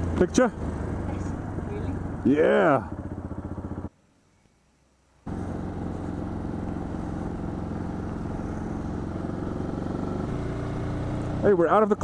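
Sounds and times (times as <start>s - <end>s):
motorcycle engine running: 0.0s - 3.9s, 5.2s - 12.0s.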